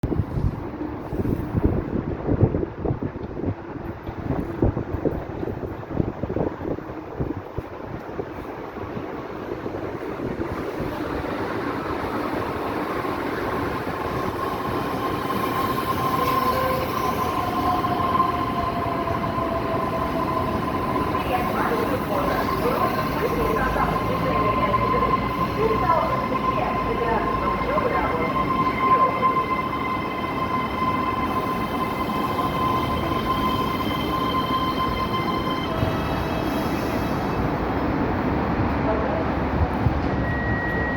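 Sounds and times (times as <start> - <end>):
electric train rumbling on rails: 0.0 - 40.9.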